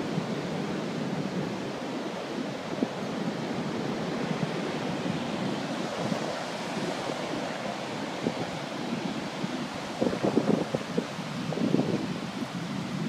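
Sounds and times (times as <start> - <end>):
waves breaking: 0.0 - 13.0
wind on microphone: 0.0 - 13.0.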